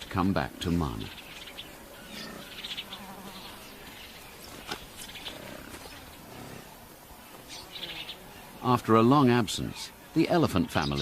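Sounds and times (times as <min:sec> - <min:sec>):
insects buzzing and trilling: 0:00.0 - 0:11.0.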